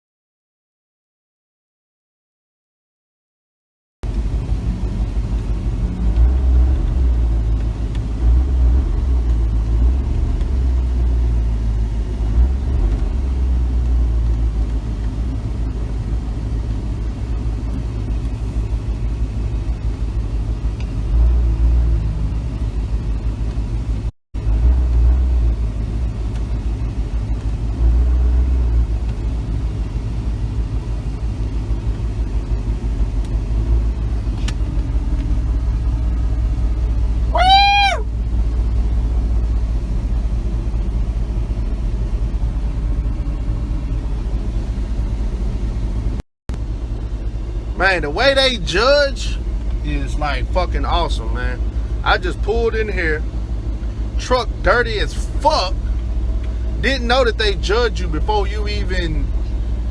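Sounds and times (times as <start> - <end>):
truck engine and road rumble: 4.0 - 59.9.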